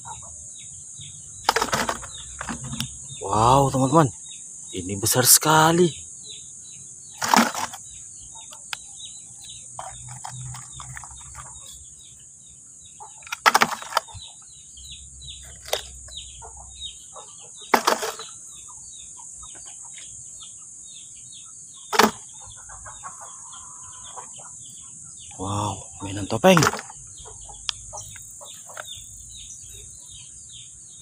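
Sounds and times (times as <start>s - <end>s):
insect drone: 0.0s - 31.0s
small birds chirping: 0.0s - 31.0s.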